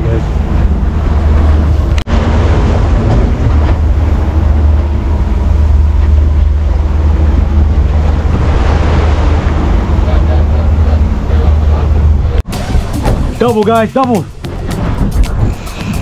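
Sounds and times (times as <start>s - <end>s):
outboard motor running: 0.0s - 16.0s
water rushing along hull: 0.0s - 16.0s
wind buffeting microphone: 0.0s - 16.0s.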